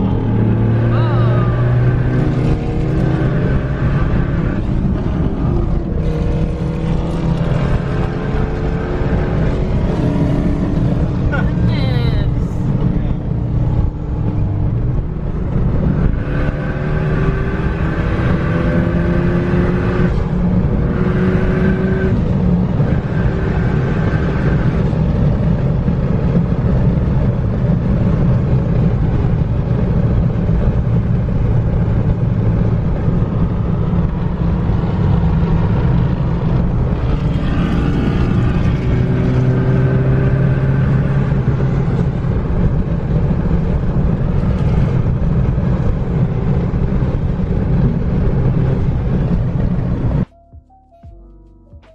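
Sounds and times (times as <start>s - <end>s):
car engine accelerating: 0.0s - 50.4s
road noise: 0.0s - 51.9s.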